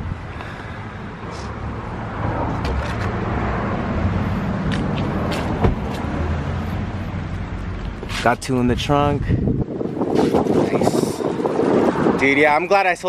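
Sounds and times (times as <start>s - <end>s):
low vehicle rumble: 0.0s - 12.4s.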